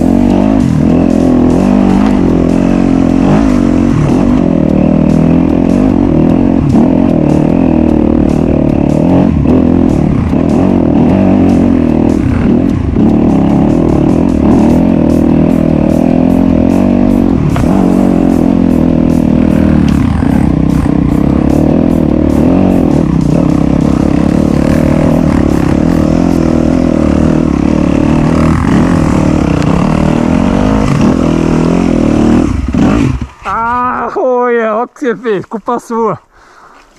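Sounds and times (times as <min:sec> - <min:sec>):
motorcycle engine revving: 0:00.0 - 0:34.4.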